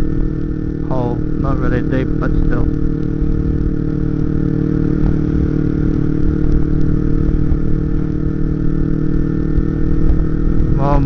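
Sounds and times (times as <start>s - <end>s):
motorcycle engine cruising: 0.0s - 11.0s
wind rumble on microphone: 0.0s - 11.0s.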